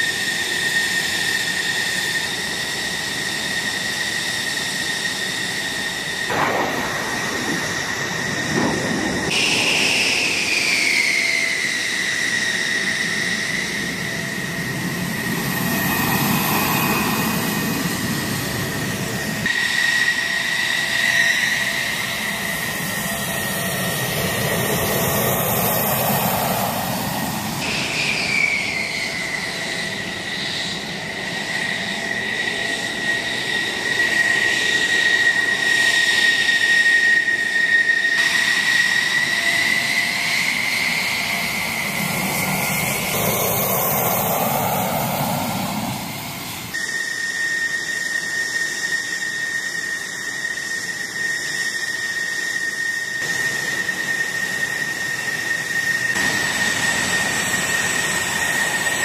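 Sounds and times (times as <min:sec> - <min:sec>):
jet engines idling: 0:00.0 - 0:59.0
jet passing: 0:00.1 - 0:46.8, 0:51.5 - 0:59.0.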